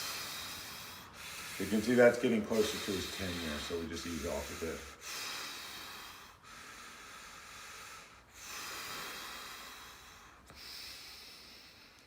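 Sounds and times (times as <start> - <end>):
person breathing slowly: 0.0 - 12.0.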